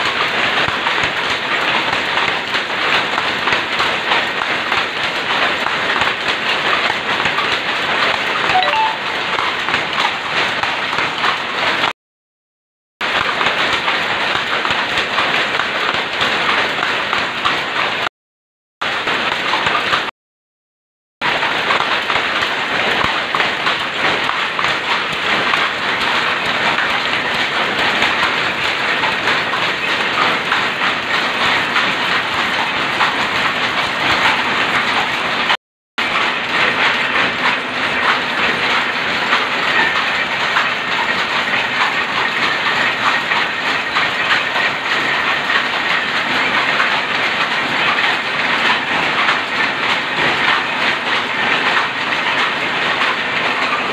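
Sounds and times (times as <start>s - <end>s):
loom clattering: 0.0s - 11.9s, 13.0s - 18.0s, 18.8s - 20.1s, 21.2s - 53.9s.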